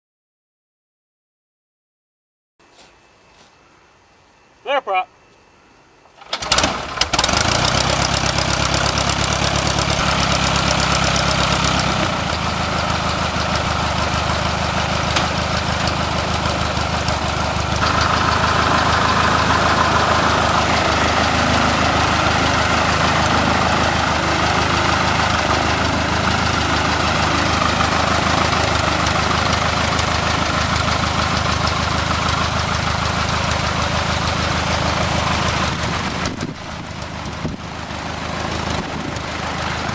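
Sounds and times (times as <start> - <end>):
aircraft engine starting and idling: 6.1 - 39.9.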